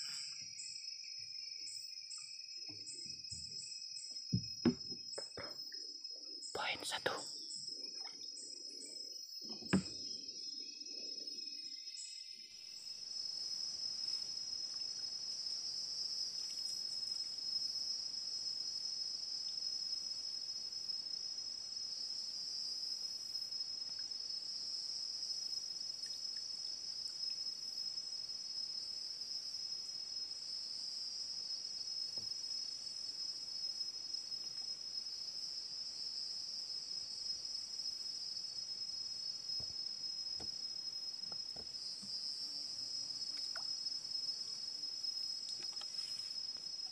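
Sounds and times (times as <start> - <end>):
forest insects droning: 0.0 - 46.9.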